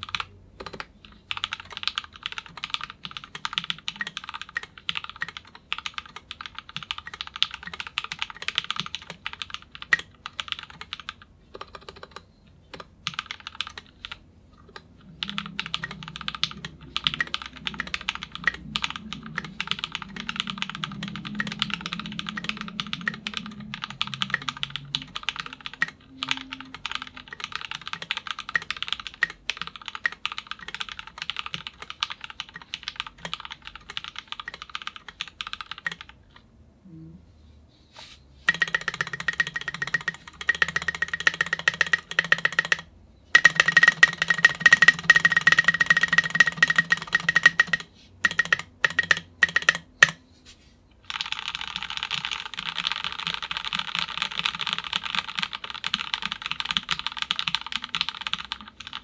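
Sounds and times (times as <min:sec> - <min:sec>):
fast typing on mechanical keyboard: 0:00.0 - 0:36.4, 0:38.5 - 0:50.2, 0:51.0 - 0:59.0.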